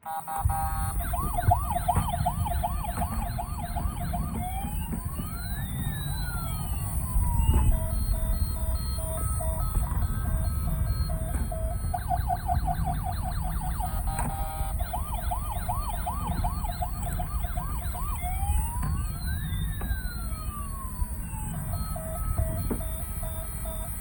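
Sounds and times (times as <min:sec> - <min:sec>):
electronic toy siren: 0:00.0 - 0:24.0.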